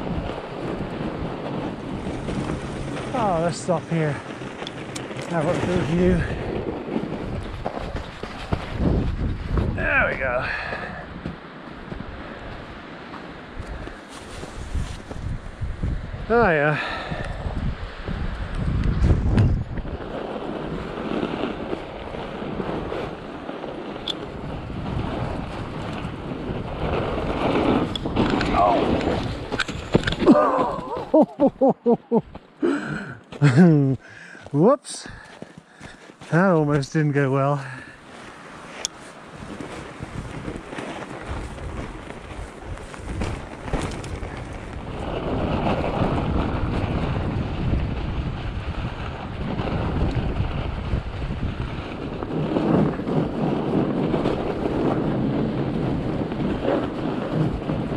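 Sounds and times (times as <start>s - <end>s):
bike tyres rolling through snow: 0.0s - 57.9s
wind noise on microphone: 0.0s - 57.9s.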